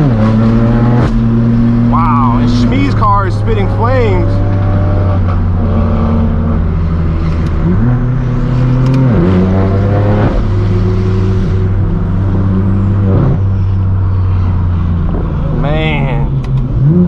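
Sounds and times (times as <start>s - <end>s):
car engine droning while driving: 0.0s - 17.0s.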